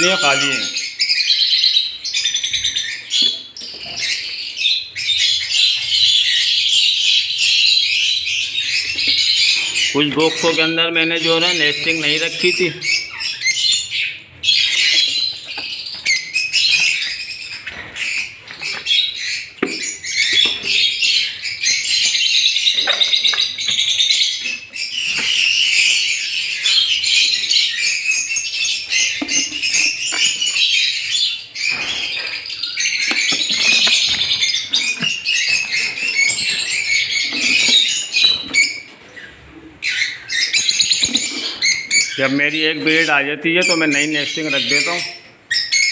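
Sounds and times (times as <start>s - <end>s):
lovebirds chattering and screeching: 0.0s - 45.9s.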